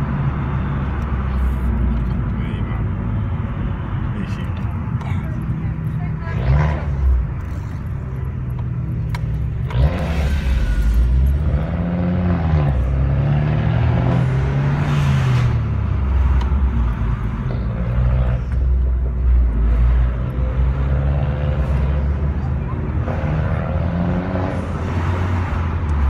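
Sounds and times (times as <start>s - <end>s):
car engine: 0.0s - 26.0s
road noise: 0.0s - 26.0s.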